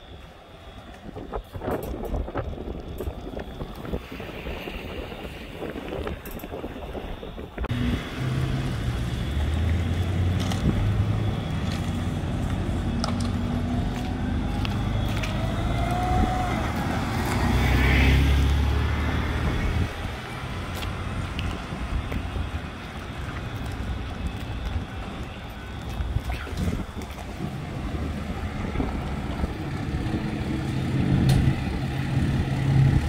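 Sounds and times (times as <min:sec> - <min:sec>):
outdoor rumble: 0:00.0 - 0:33.0.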